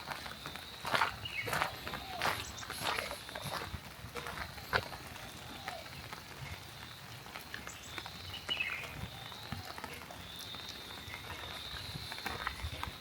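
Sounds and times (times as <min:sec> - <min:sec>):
rain drips and taps: 0:00.0 - 0:13.0.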